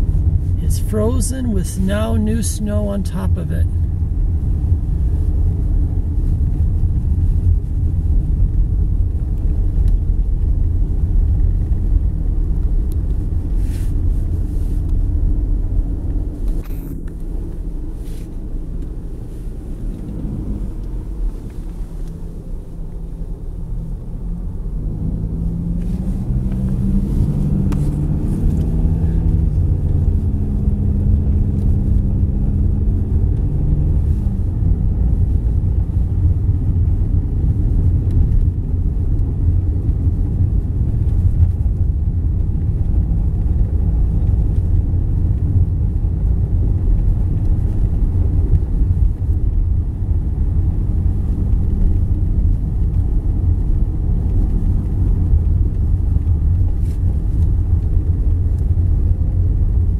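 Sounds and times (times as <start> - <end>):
car interior road rumble: 0.0 - 59.9
engine hum: 0.0 - 59.9.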